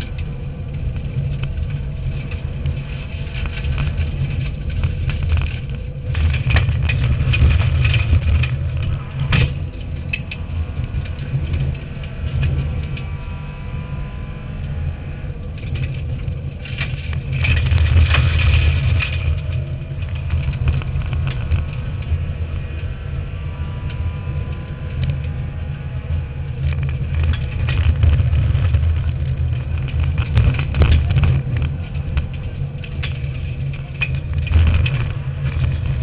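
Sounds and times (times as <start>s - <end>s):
car engine drone: 0.0s - 36.0s
loud rasping engine noise: 0.0s - 36.0s
road and tyre noise: 0.0s - 36.0s.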